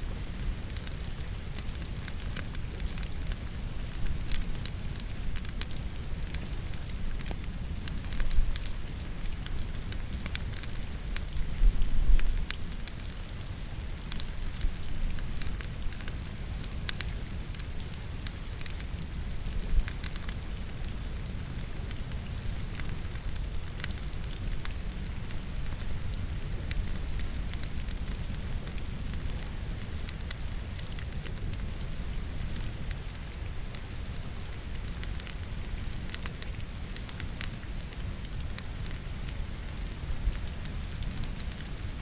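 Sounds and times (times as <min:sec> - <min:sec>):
firewood crackling and popping: 0:00.0 - 0:42.0
steady rain: 0:00.0 - 0:42.0.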